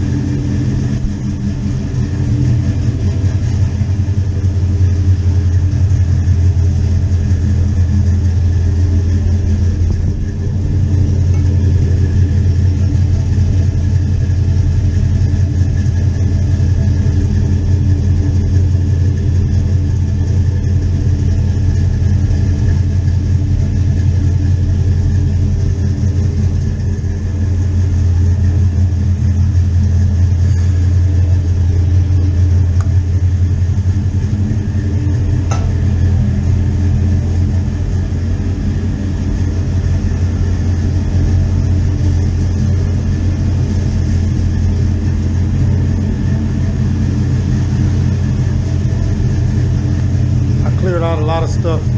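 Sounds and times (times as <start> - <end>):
vehicle engine idling: 0.0 - 51.9.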